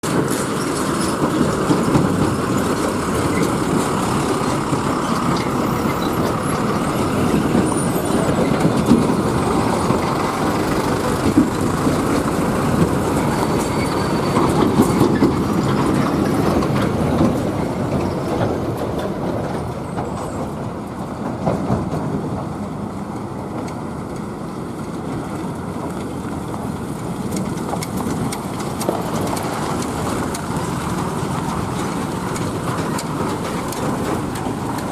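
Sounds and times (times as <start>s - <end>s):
heavy trucks driving: 0.0s - 34.9s.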